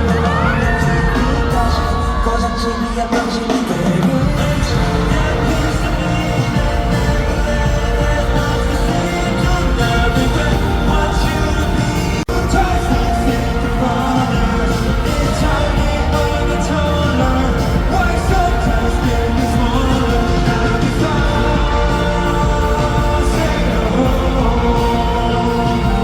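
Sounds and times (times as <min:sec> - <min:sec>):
person singing: 0:00.0 - 0:26.0
pop backing track: 0:00.0 - 0:26.0.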